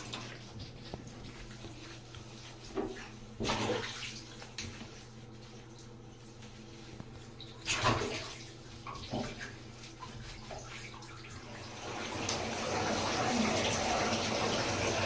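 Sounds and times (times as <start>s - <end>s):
running water: 0.0s - 15.0s
water splashing in bathtub: 0.0s - 15.0s.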